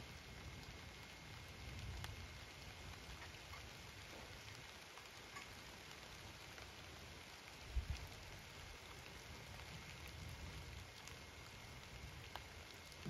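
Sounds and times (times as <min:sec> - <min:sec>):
soft rain on plants: 0:00.0 - 0:13.0.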